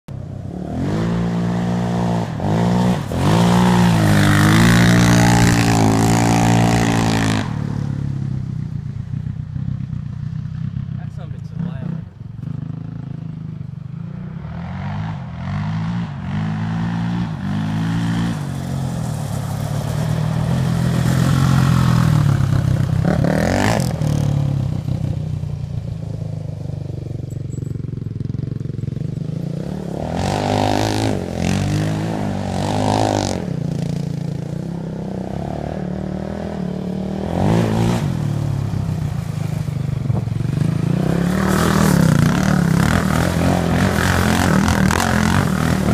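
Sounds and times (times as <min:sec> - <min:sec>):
quad engine revving: 0:00.4 - 0:27.2, 0:28.0 - 0:45.9.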